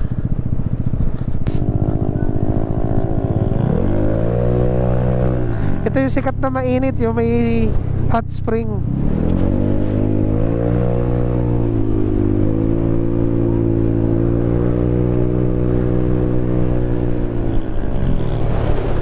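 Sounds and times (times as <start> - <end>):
scooter engine accelerating: 0.0 - 19.0.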